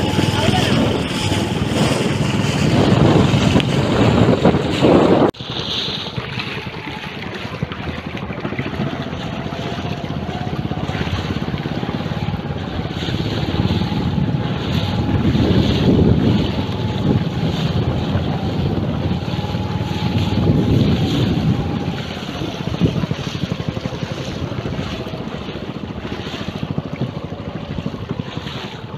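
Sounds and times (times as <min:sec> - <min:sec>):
boat motor running: 0:00.0 - 0:28.9
wind buffeting microphone: 0:00.0 - 0:28.9.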